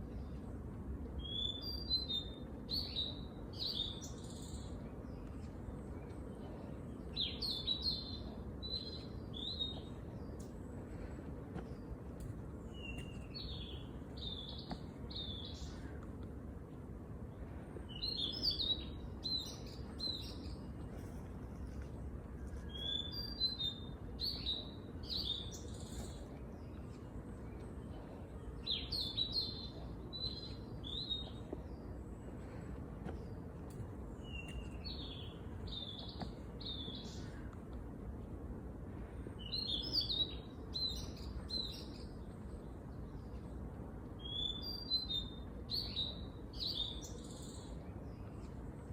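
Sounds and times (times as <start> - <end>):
low background rumble: 0.0 - 48.9
songbird chirping: 0.0 - 48.9.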